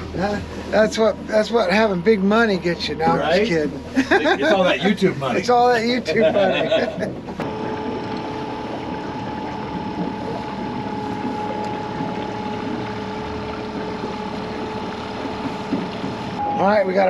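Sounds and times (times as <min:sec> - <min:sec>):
outboard motor whining: 0:00.0 - 0:17.0
water against boat hull: 0:00.0 - 0:17.0.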